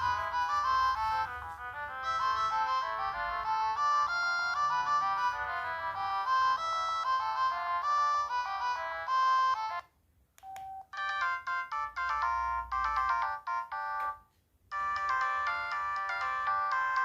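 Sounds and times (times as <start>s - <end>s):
phone ringtone melodies: 0.0s - 17.0s.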